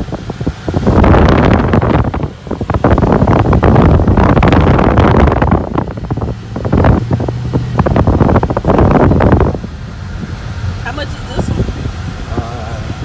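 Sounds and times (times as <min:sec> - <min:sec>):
low car engine drone: 0:00.0 - 0:13.0
wind buffeting microphone: 0:00.0 - 0:13.0.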